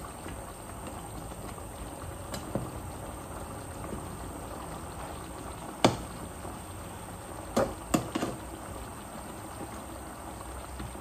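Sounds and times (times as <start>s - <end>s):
pot simmering and bubbling: 0.0s - 11.0s.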